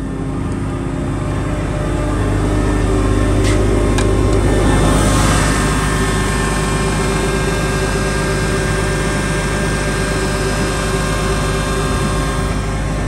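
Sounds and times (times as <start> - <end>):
diesel engine running: 0.0 - 13.0
thin steady whine: 0.0 - 13.0.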